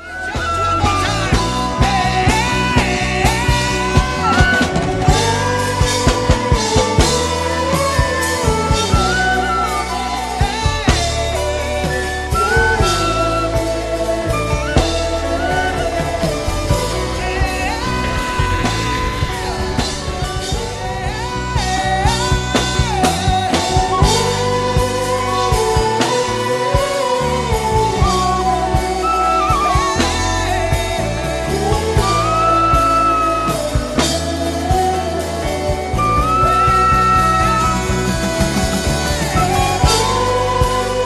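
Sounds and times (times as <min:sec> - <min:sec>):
backing music with bass and drums: 0:00.0 - 0:41.0.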